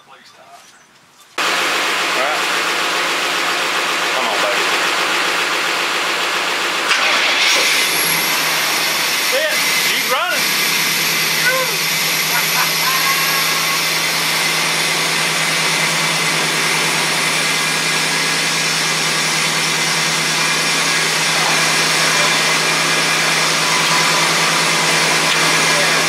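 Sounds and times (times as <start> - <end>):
truck engine idling: 1.4 - 26.0.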